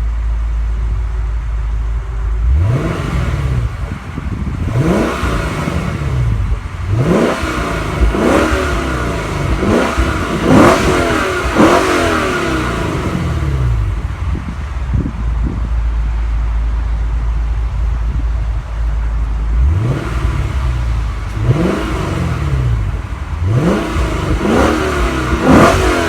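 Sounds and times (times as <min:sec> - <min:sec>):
engine revving in throttle blips: 0:02.1 - 0:15.7, 0:18.4 - 0:26.0.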